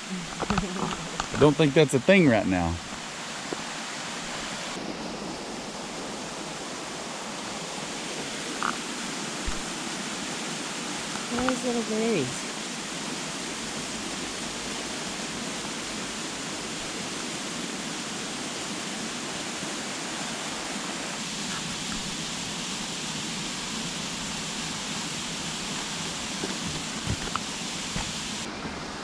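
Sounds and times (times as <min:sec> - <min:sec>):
steady rushing noise: 0:00.9 - 0:29.0.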